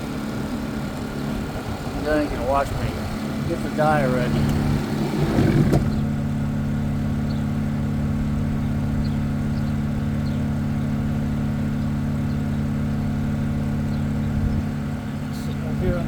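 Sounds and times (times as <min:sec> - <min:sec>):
engine idling hum: 0:00.0 - 0:16.0.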